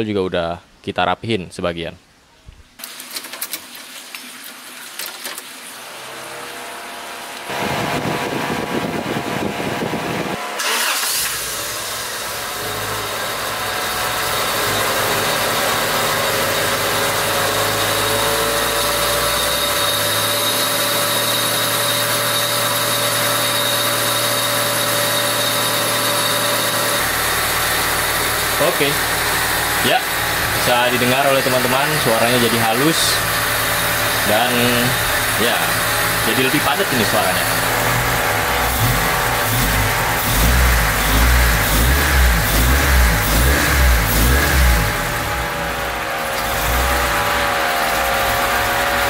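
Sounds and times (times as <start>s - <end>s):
car engine starting and running: 5.8s - 49.0s.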